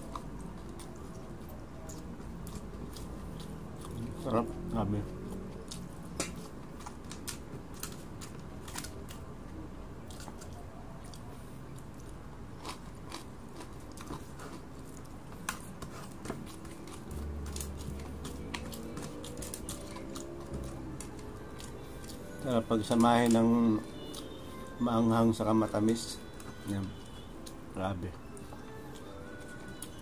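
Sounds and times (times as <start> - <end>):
chewing and crunching dried fish: 0.0 - 30.0.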